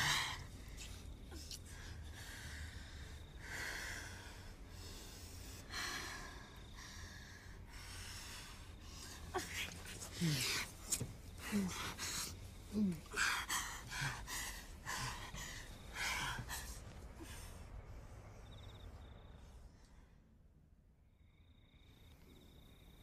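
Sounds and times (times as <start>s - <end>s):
people breathing heavily: 0.0s - 20.4s.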